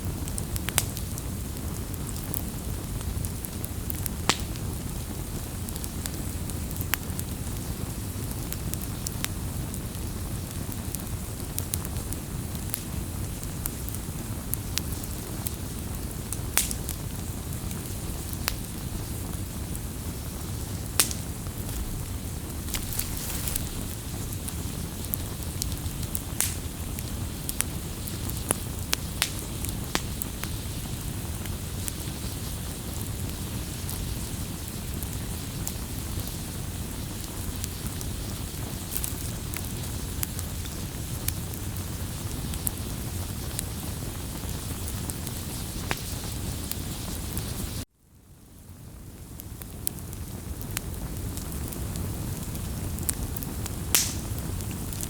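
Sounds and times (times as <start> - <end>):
wood fire burning: 0.0 - 55.0.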